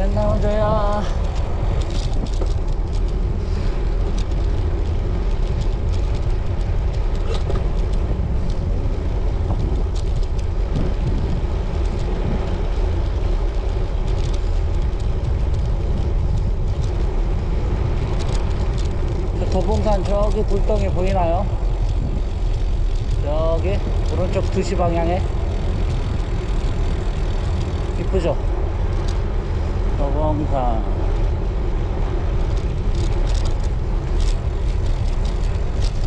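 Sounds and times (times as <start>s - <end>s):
tyre and road noise: 0.0s - 36.0s
wind rushing over microphone: 0.0s - 36.0s.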